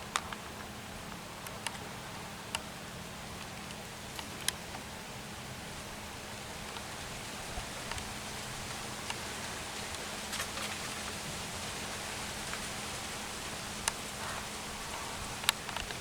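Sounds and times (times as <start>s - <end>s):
outdoor background hiss: 0.0s - 16.0s
faint ticks and clicks: 0.1s - 2.7s, 3.3s - 4.9s, 6.2s - 16.0s.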